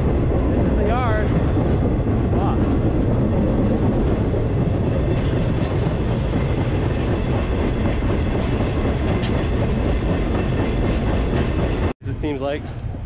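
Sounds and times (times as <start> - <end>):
wheels clickety-clack over rails: 0.0 - 12.0
freight train rumbling: 0.0 - 13.0.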